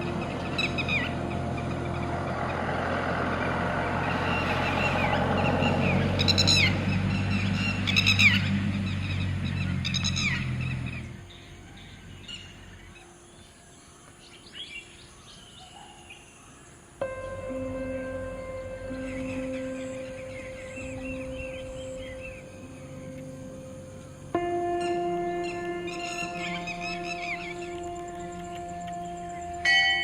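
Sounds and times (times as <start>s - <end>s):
low steady rumble: 0.0s - 12.7s, 17.0s - 30.0s
wild birds calling: 0.0s - 30.0s.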